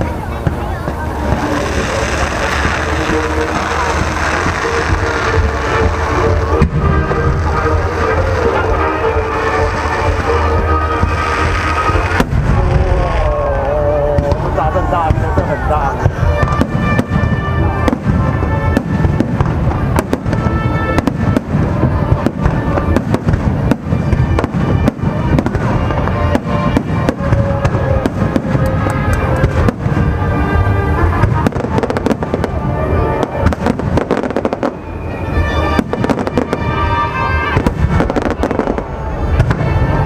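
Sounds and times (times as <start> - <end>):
fireworks bursting: 0.0 - 40.0
music playing: 0.0 - 40.0.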